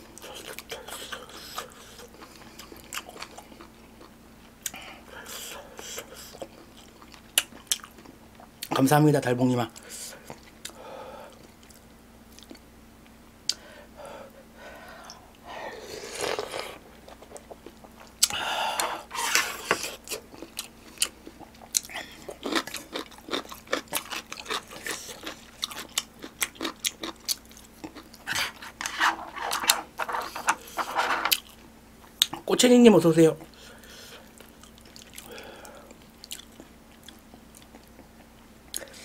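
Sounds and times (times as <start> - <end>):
man chewing wet mouth sounds: 0.1 - 8.8, 9.7 - 13.6, 16.0 - 32.4, 33.4 - 39.0.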